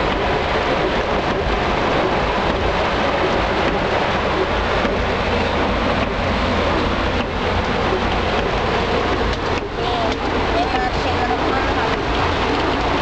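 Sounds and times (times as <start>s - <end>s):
heavy rain on car roof: 0.0s - 13.0s
low rumble: 0.0s - 13.0s.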